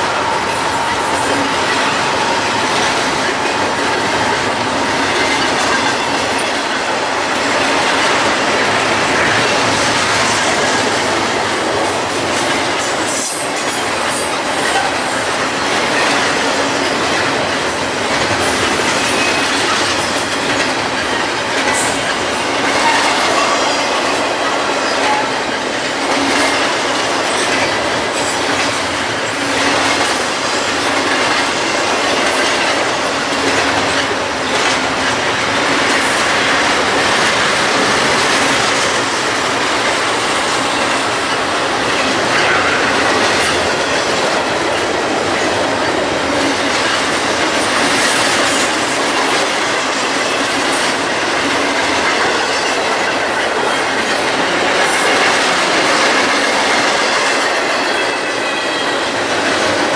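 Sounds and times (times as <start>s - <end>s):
rail click: 0.0s - 59.9s
train wheels on rails: 0.0s - 59.9s.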